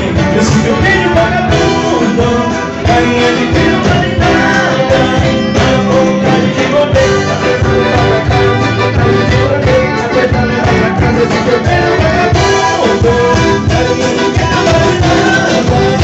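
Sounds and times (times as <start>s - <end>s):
band playing loud music: 0.0s - 16.0s
drum beat: 0.0s - 16.0s.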